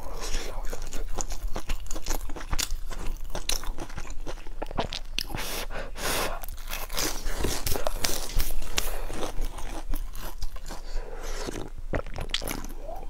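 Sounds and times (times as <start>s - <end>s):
crunchy bread chewing: 0.0s - 5.5s, 6.3s - 13.0s.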